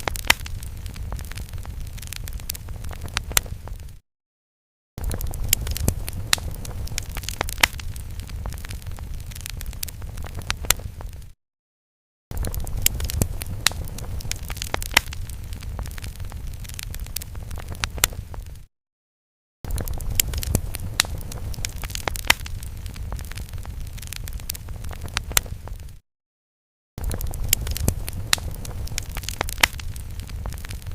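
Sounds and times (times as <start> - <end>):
fire crackling and popping: 0.0 - 4.0, 5.0 - 11.4, 12.3 - 18.7, 19.7 - 26.0, 27.0 - 30.9.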